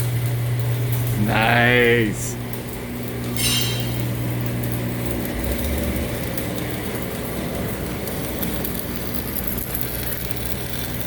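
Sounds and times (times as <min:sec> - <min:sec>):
low machine hum: 0:00.0 - 0:09.2.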